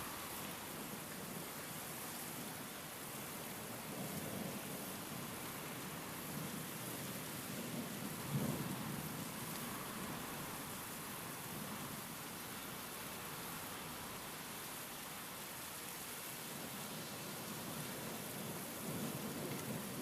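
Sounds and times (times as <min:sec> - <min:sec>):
steady rain: 0:00.0 - 0:20.0
wind: 0:00.0 - 0:20.0.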